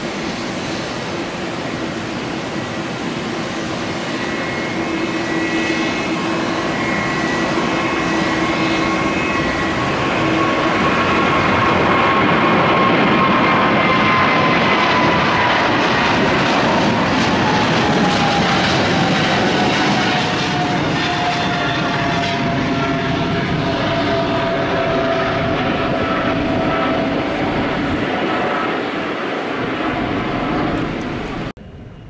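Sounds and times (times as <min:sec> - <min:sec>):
jet engines roaring with whine: 0:00.0 - 0:32.0.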